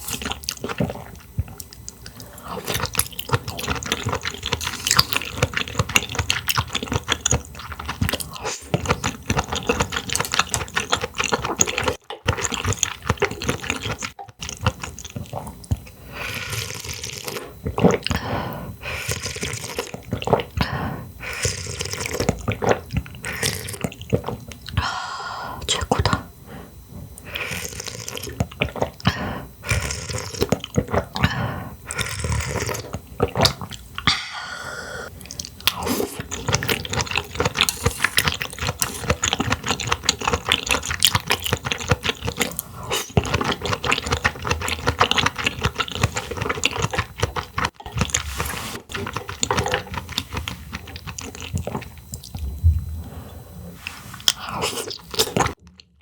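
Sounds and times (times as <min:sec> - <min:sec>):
wet chewing: 0:00.0 - 0:24.9, 0:25.5 - 0:56.0.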